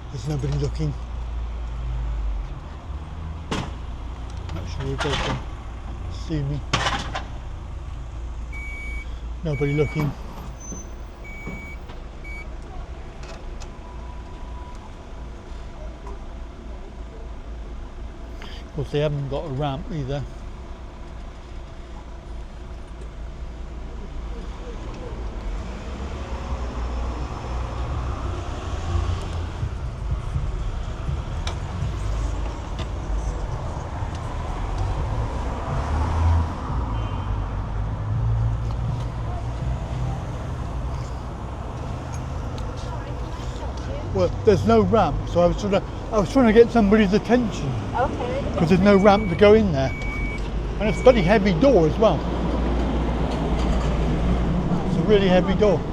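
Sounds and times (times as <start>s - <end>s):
road traffic rumble: 0.0s - 55.9s.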